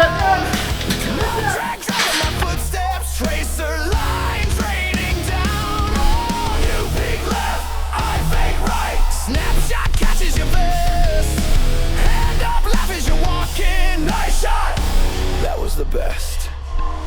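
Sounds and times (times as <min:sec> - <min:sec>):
heavy rock song: 0:00.0 - 0:17.0.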